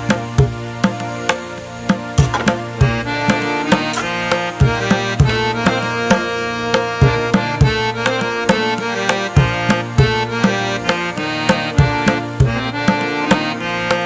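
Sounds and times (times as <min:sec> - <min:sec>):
hand drum beat: 0:00.0 - 0:14.0
melody of held notes: 0:00.0 - 0:14.0.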